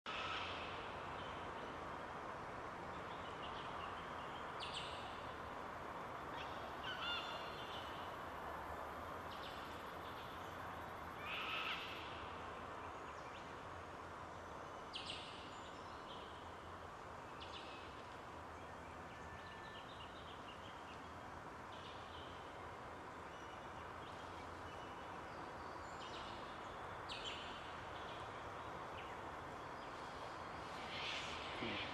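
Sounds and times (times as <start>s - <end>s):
background hiss: 0.1s - 31.9s.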